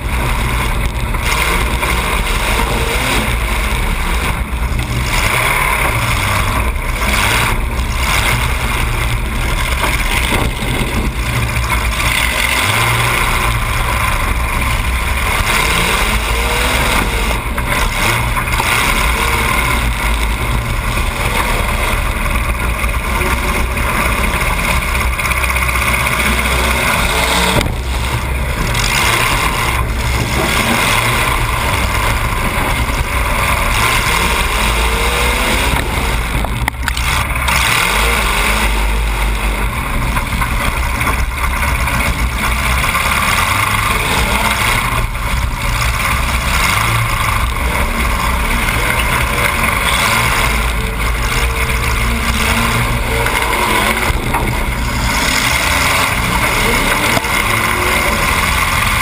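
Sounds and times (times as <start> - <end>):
car engine running loud: 0.0 - 59.0.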